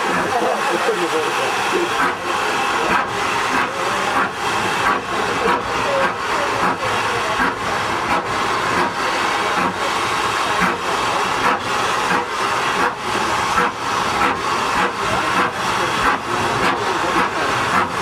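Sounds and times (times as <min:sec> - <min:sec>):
steam locomotive chuffing: 0:00.0 - 0:18.0.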